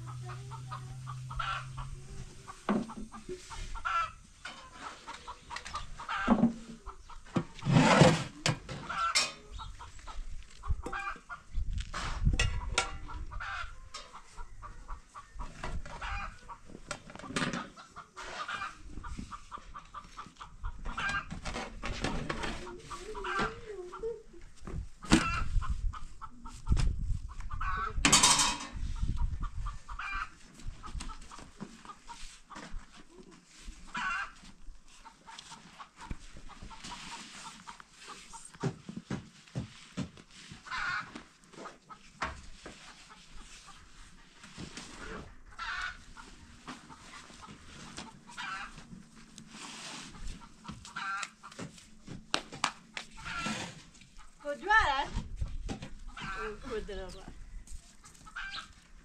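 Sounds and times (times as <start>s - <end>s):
chickens clucking: 0.0s - 39.7s, 40.4s - 59.0s.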